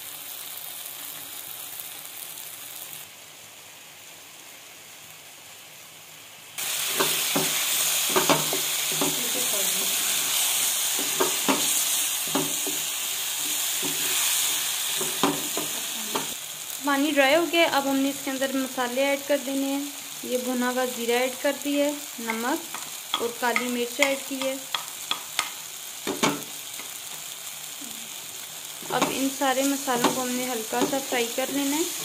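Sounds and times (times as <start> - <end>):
tomatoes sizzling in oil: 0.0 - 32.0.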